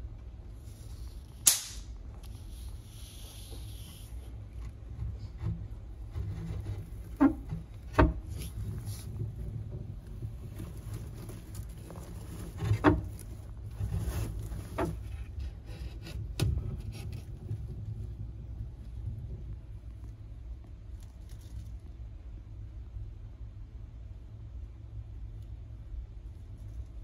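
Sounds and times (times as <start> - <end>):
low steady rumble: 0.0 - 27.0.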